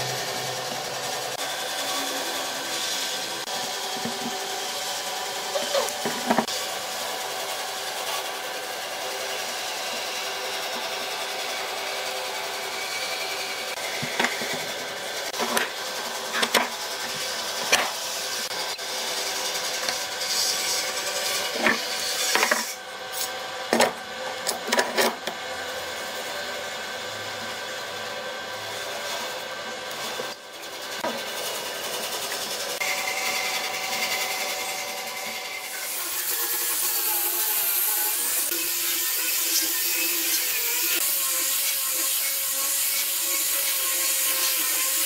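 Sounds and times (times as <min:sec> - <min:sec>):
power tool working wood: 0:00.0 - 0:45.0.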